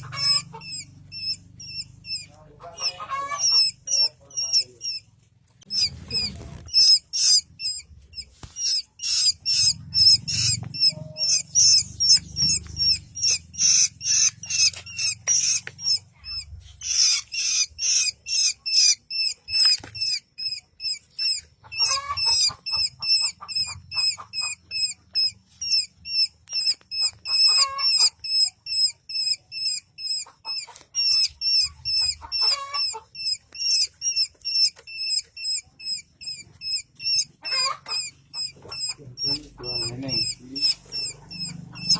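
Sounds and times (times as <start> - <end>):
baby bird chicks chirping: 0.0 - 41.9.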